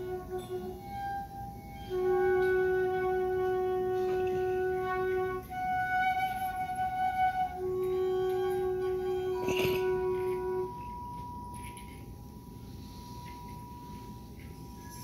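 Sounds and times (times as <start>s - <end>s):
flute-like held notes: 0.0s - 15.0s.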